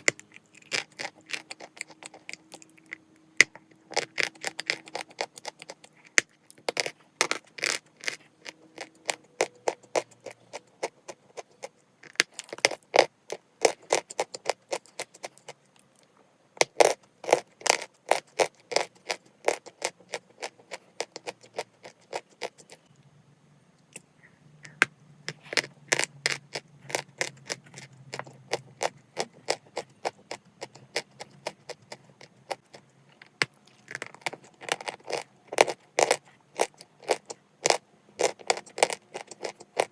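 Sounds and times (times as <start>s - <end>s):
crunching and chewing chalk: 0.0s - 23.0s, 23.9s - 39.9s.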